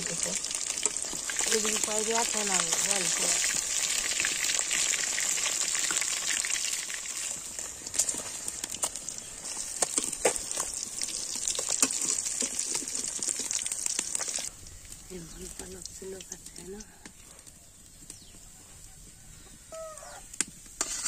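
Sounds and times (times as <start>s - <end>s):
fish sizzling in hot oil: 0.0s - 16.8s, 20.6s - 21.0s.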